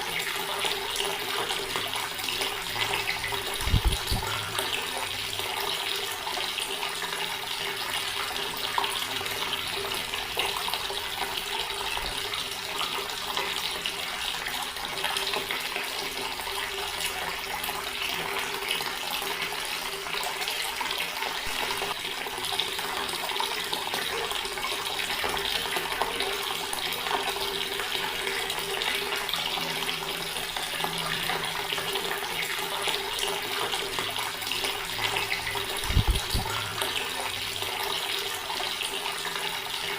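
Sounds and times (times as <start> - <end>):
tap water pouring into basin: 0.0 - 39.9.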